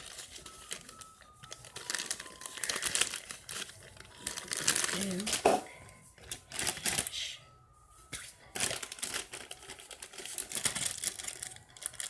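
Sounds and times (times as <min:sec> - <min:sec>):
plastic packaging crinkling: 0:00.0 - 0:07.5, 0:08.1 - 0:12.0.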